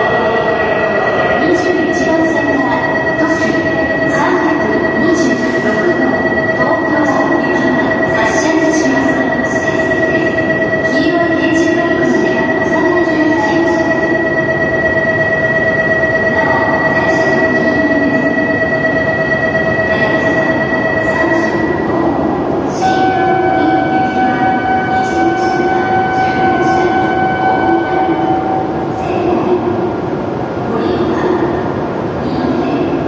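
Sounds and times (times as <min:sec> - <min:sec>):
train electrical whine: 0:00.0 - 0:33.0.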